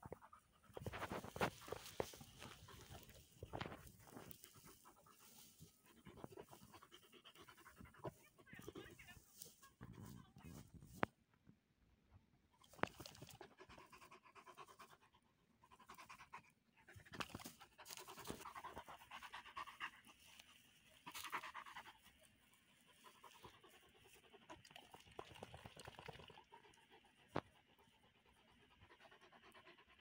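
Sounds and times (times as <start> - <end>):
dog panting: 0.0 - 9.6, 12.9 - 30.0.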